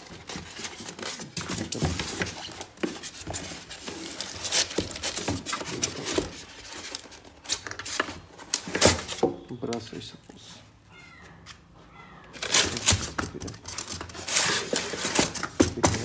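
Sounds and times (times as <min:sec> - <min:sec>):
plastic scraping against foam: 0:00.0 - 0:09.8, 0:12.4 - 0:16.0.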